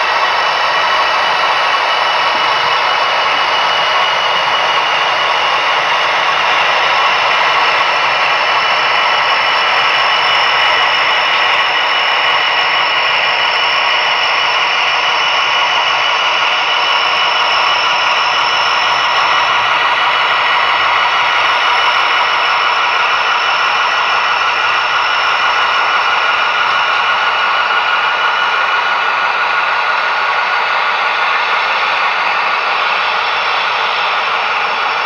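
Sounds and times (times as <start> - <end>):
model train running on track: 0.0 - 35.0.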